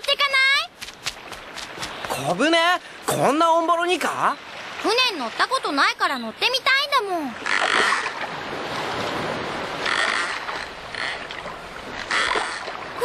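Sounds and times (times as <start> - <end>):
sea water washing: 0.3 - 13.0
oars splashing through water: 0.9 - 13.0.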